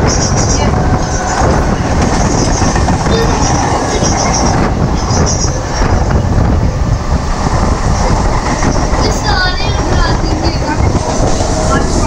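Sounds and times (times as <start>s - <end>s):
rushing wind: 0.0s - 12.0s
train wheels rumbling on track: 0.0s - 12.0s.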